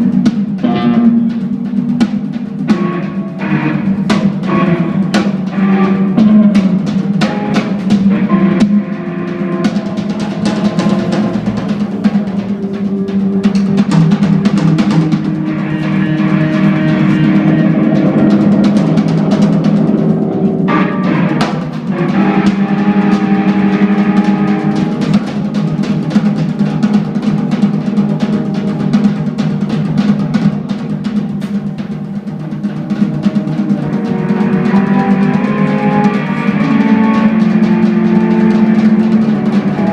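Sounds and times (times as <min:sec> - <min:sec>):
busy drum kit with cymbals: 0:00.0 - 0:39.9
held organ notes: 0:00.0 - 0:39.9
jazz-rock trio playing: 0:00.0 - 0:39.9.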